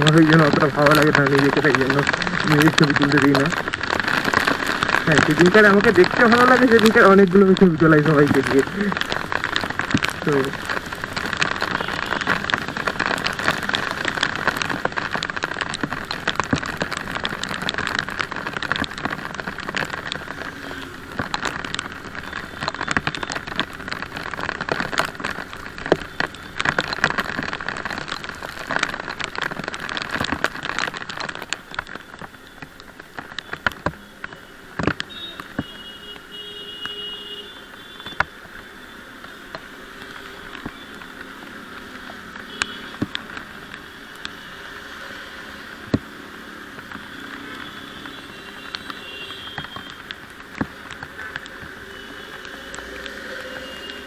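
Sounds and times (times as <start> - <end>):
raindrops pattering on microphone: 0.0 - 54.0
wind and wet road hiss: 0.0 - 54.0.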